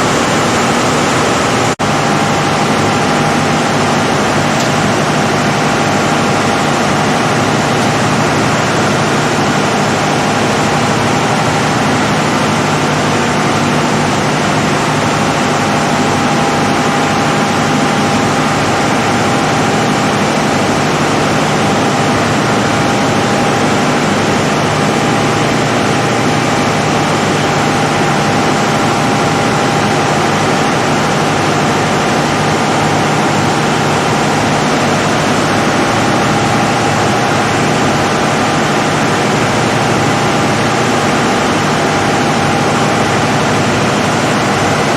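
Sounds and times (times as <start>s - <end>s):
diesel generator running: 0.0s - 44.9s.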